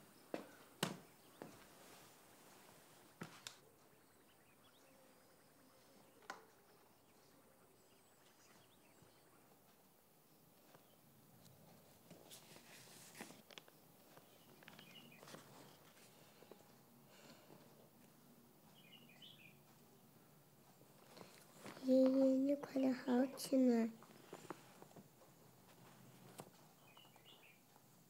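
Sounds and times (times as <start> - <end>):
soft rustling: 0.2 - 3.7, 8.2 - 28.0.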